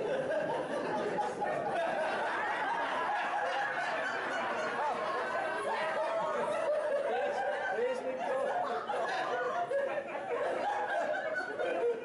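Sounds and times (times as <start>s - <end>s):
crowd chattering and laughing: 0.0s - 12.0s.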